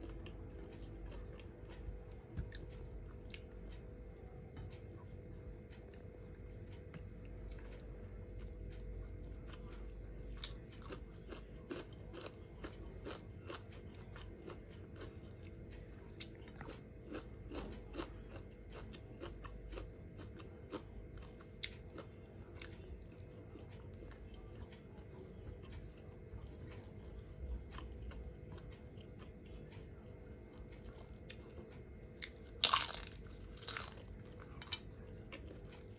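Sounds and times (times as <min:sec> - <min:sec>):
chewing crunchy food: 0:00.0 - 0:35.9.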